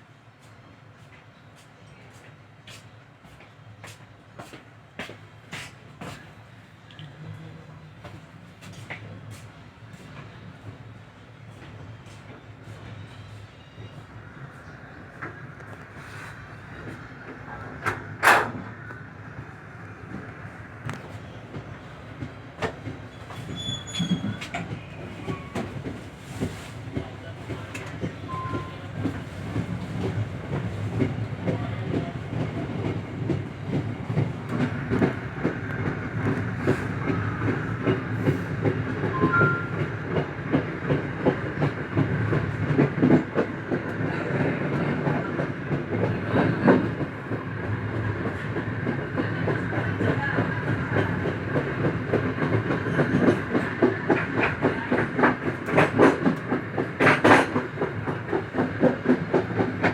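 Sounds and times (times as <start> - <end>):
train rumbling: 0.3 - 59.9.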